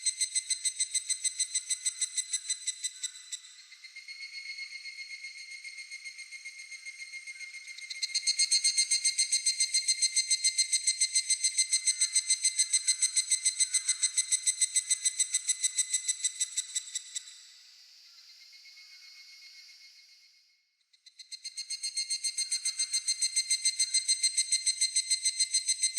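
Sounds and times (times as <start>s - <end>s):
cicada pulsed trill: 0.0s - 20.3s, 21.0s - 25.9s.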